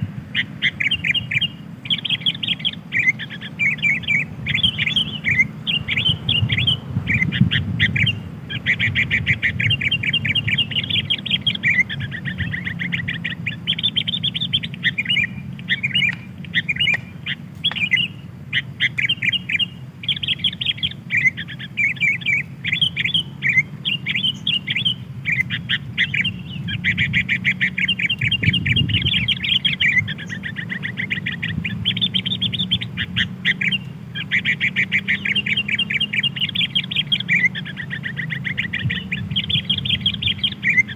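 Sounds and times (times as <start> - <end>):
bulbul chirping: 0.0 - 40.9
low steady hum: 0.0 - 40.9.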